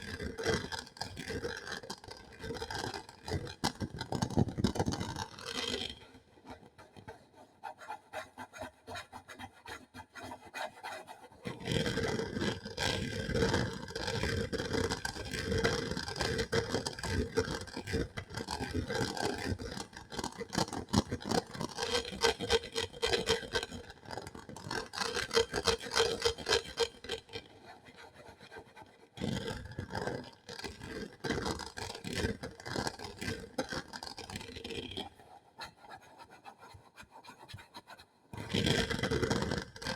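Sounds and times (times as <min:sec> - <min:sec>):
scratching on a hard surface: 0:00.0 - 0:39.9.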